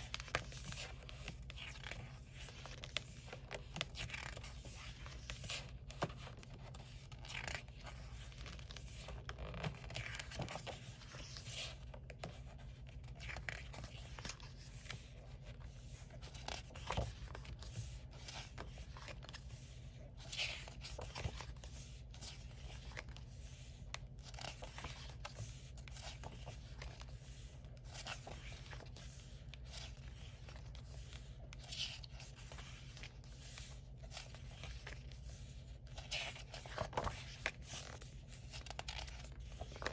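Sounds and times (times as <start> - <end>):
paper rustling: 0.0 - 39.9.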